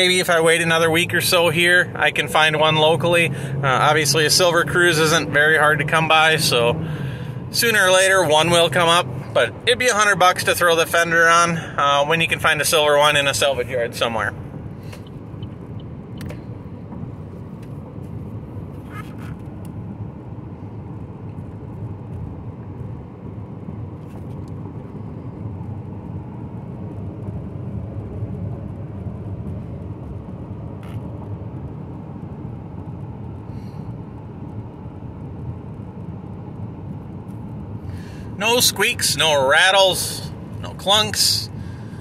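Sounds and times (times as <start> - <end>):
car engine drone: 0.0 - 42.0
road and tyre noise: 0.0 - 42.0.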